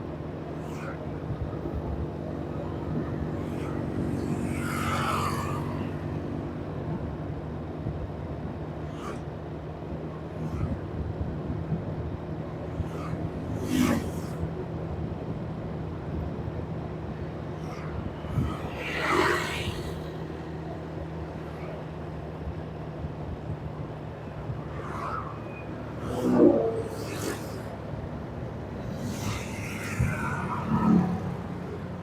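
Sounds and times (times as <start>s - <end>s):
vehicles passing by: 0.0s - 32.0s.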